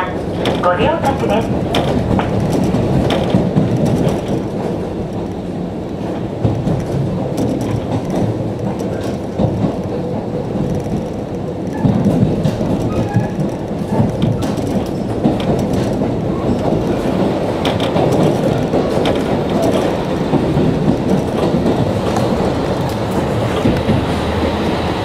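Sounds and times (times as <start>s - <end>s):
diesel railcar running: 0.0s - 25.0s
wheels clicking over rail joints: 0.0s - 25.0s.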